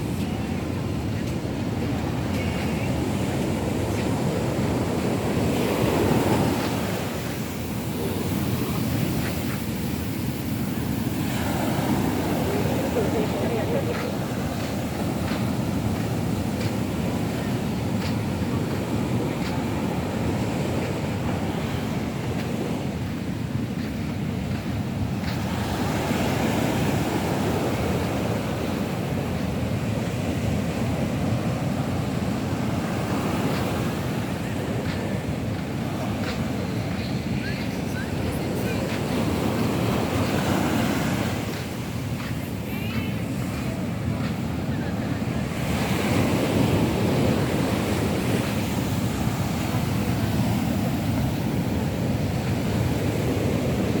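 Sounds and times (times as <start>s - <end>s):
rough sea surf: 0.0s - 54.0s
waves breaking on beach: 0.0s - 54.0s
wind buffeting microphone: 0.0s - 54.0s.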